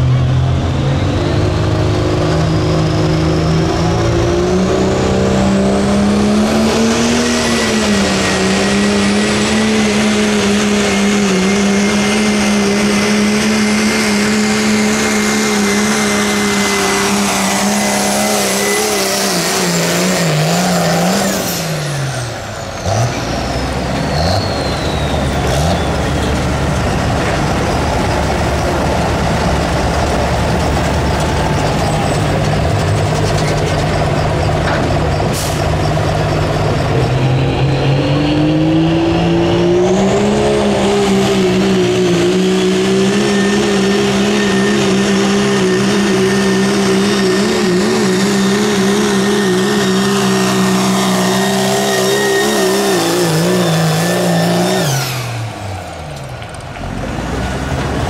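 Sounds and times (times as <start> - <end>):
diesel truck engine running hard: 0.0 - 58.0.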